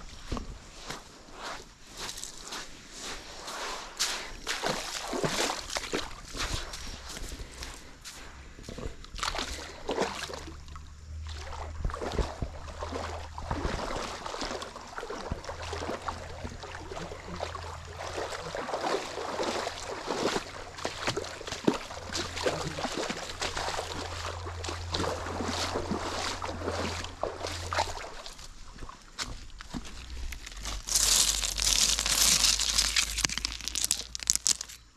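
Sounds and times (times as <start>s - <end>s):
feet wading through water: 0.0s - 34.9s.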